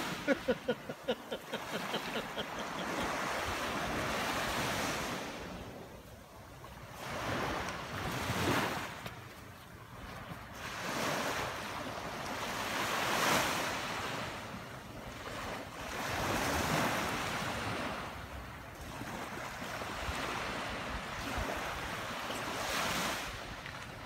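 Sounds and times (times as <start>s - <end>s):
surf washing on beach: 0.0s - 24.0s.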